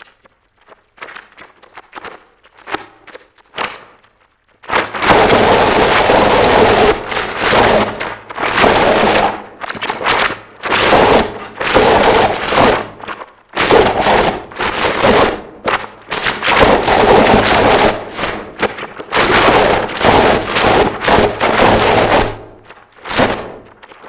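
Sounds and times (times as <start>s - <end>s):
harsh distorted noise music: 4.7s - 24.0s.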